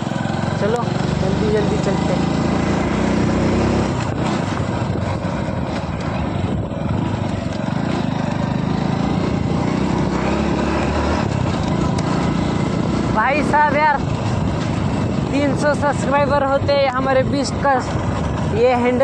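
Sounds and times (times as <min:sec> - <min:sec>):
motorcycle engine running: 0:00.0 - 0:19.0
wind and tyre noise: 0:00.0 - 0:19.0.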